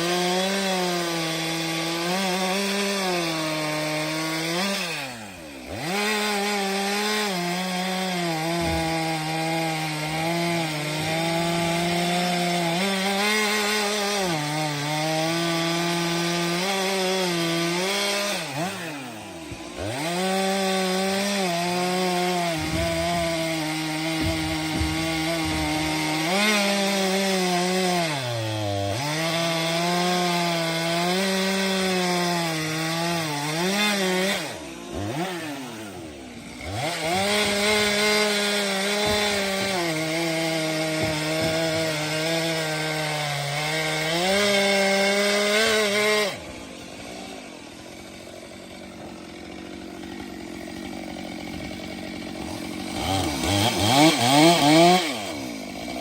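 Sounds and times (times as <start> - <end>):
chainsaw cutting firewood: 0.0 - 56.0.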